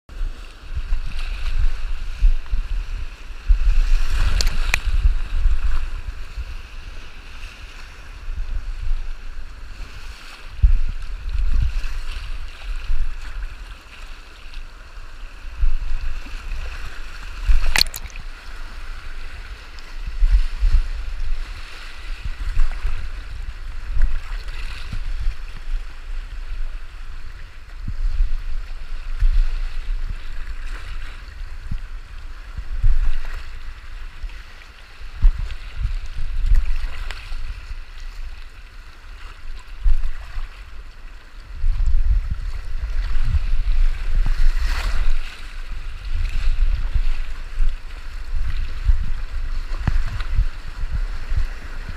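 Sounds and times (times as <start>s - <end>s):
river water rushing and splashing: 0.1s - 51.9s.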